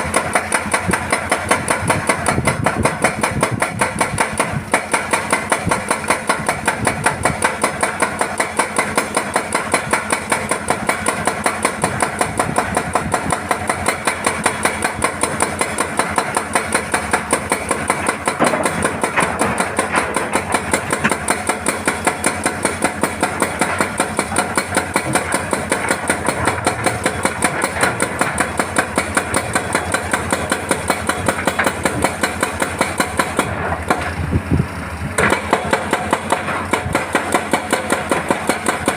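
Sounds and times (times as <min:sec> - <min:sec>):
excavator diesel engine: 0:00.0 - 0:38.9
hydraulic breaker hammering rock: 0:00.0 - 0:38.9.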